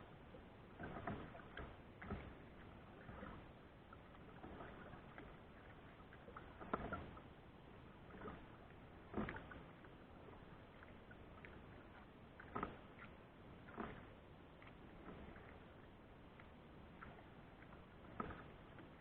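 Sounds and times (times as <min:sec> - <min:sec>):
paddle splashing in water: 0:00.0 - 0:19.0.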